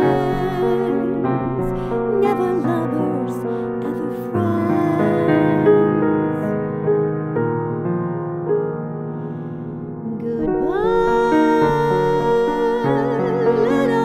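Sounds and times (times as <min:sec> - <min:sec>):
slow gentle piano ballad: 0:00.0 - 0:14.0.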